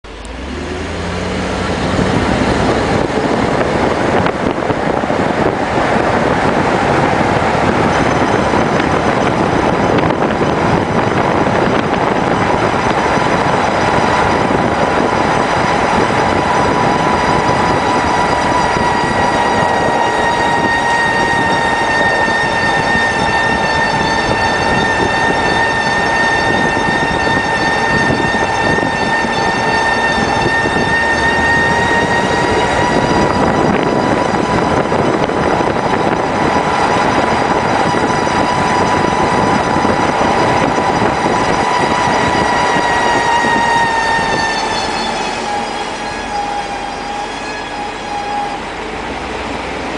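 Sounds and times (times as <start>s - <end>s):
road noise: 0.0s - 49.9s
wheel hub whining: 0.0s - 49.9s.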